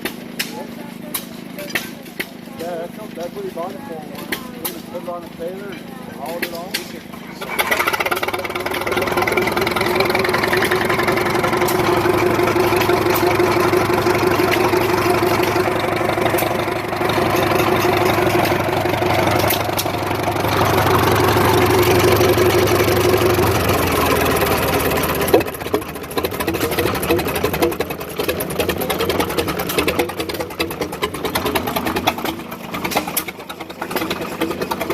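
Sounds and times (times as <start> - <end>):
combine harvester engine running: 0.0 - 34.9.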